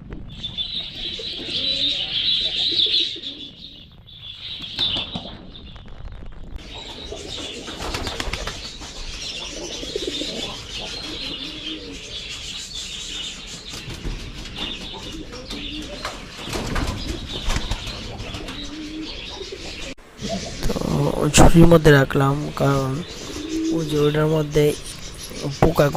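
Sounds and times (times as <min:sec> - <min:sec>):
pigeons cooing: 0:00.0 - 0:05.7, 0:06.6 - 0:25.9
wings flapping: 0:00.0 - 0:21.9, 0:22.5 - 0:25.9
budgerigars chattering: 0:00.4 - 0:05.2, 0:06.6 - 0:25.9.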